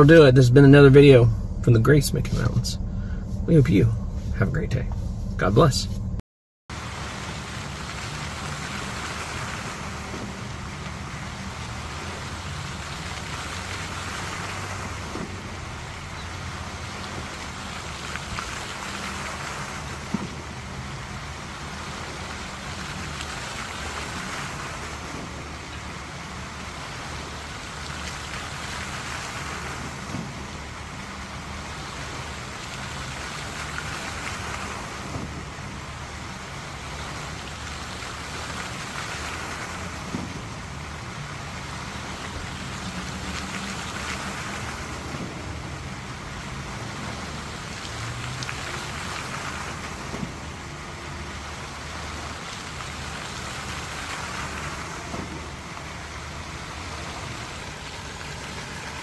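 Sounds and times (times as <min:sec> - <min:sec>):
fountain water splashing: 0:06.7 - 0:59.0.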